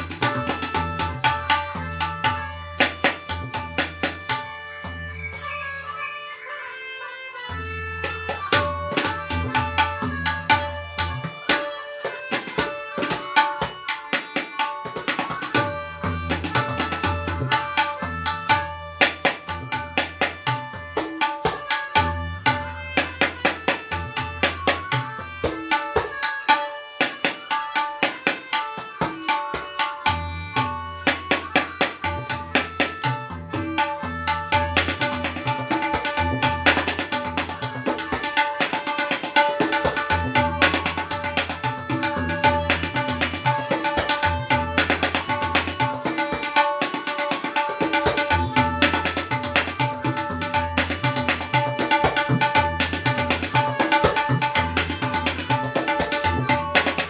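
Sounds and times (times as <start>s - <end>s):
tabla drumming: 0.0s - 5.9s, 7.5s - 57.0s
held melodic notes: 0.0s - 57.0s.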